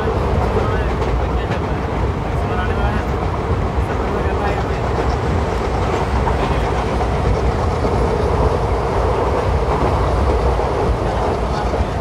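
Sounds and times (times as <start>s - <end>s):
train wheel and rail noise: 0.0s - 12.0s.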